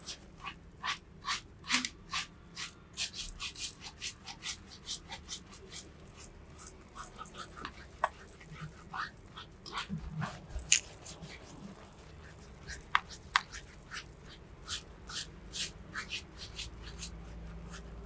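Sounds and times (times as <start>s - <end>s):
hands scrubbing lathered scalp: 0.0s - 18.0s.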